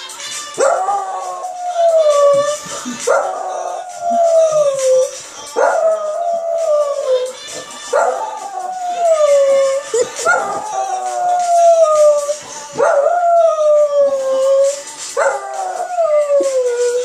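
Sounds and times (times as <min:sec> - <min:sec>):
dog howling: 0:00.6 - 0:17.0.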